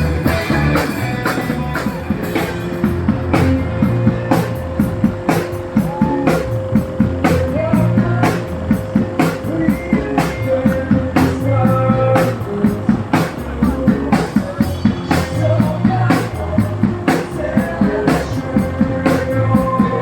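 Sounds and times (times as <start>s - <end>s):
drums keeping a steady beat: 0.0s - 20.0s
low bass line: 0.0s - 20.0s.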